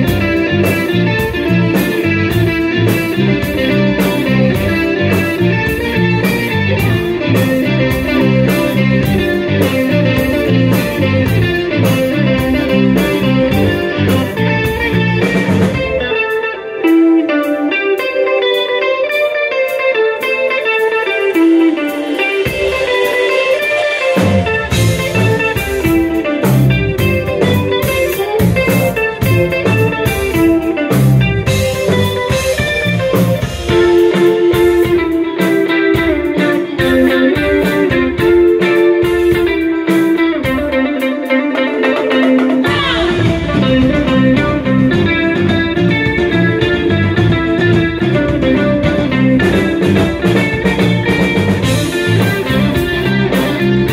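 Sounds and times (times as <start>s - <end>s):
bass guitar: 0.0s - 53.9s
drums: 0.0s - 53.9s
electric guitar melody: 0.0s - 53.9s.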